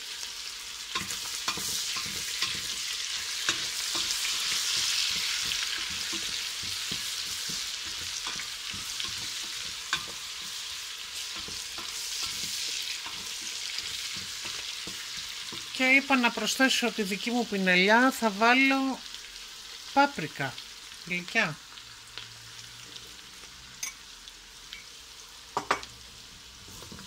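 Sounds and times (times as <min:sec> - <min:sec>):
onion sizzling in hot oil: 0:00.0 - 0:27.0.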